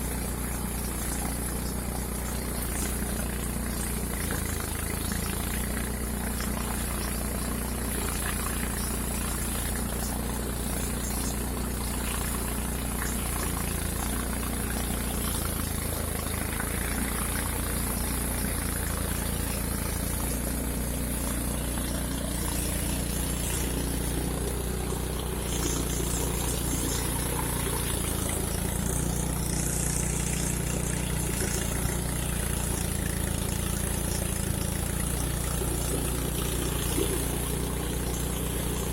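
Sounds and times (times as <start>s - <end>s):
threshing machine engine hum: 0.0s - 38.9s.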